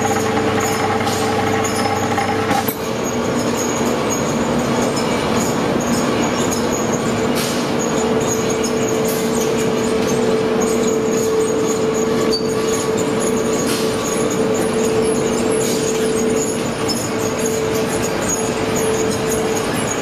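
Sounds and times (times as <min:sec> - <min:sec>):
machinery clanks: 0:00.0 - 0:20.0.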